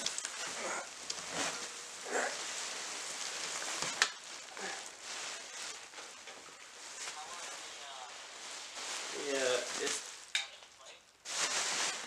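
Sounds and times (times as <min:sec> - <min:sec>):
bubble wrap rustling and crinkling: 0:00.0 - 0:12.0.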